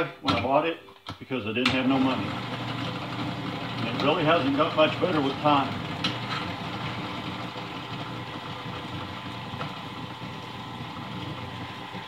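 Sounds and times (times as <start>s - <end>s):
drill press motor humming: 2.0s - 12.0s.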